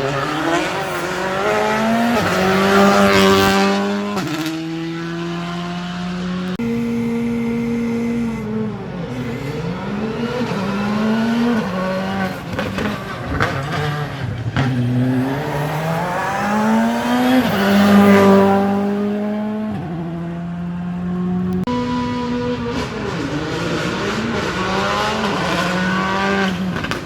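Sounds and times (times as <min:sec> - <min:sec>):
exhaust cracks: 0:00.0 - 0:27.0
rally car engine revving: 0:00.0 - 0:27.0.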